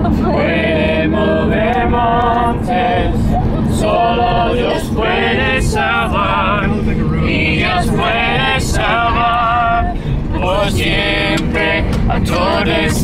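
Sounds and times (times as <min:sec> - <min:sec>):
van engine rumble: 0:00.0 - 0:13.0
group singing a worship song: 0:00.1 - 0:13.0.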